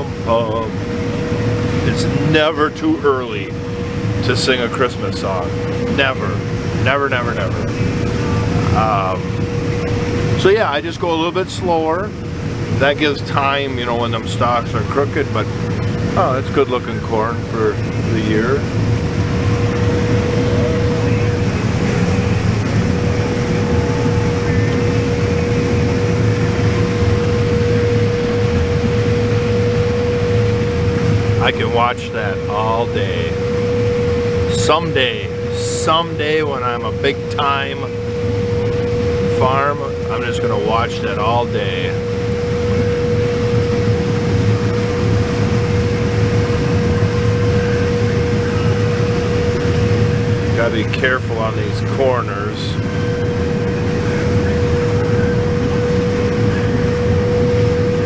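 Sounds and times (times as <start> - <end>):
combine harvester drone: 0.0 - 58.0
steady machine whine: 0.0 - 58.0.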